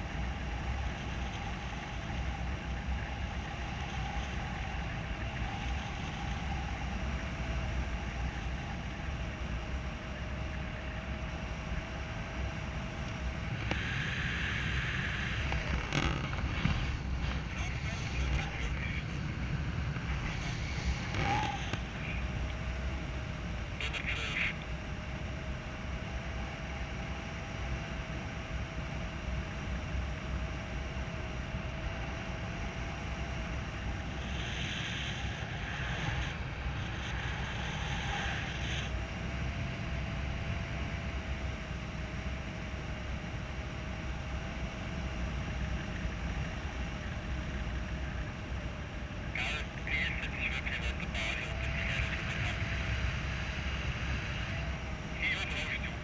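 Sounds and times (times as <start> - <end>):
faint steady tone: 0.0 - 56.0.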